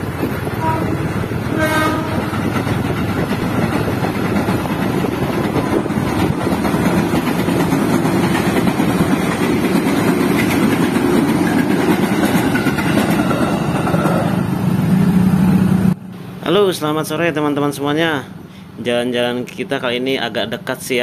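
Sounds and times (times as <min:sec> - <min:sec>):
train rumbling over rails: 0:00.0 - 0:21.0.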